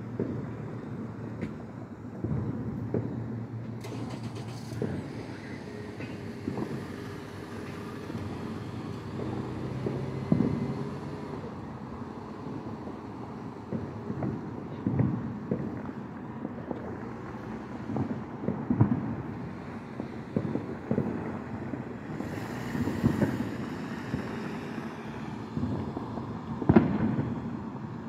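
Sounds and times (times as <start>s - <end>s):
distant fireworks booming: 0.0s - 3.8s, 4.8s - 28.0s
wind rumble on microphone: 4.8s - 28.0s.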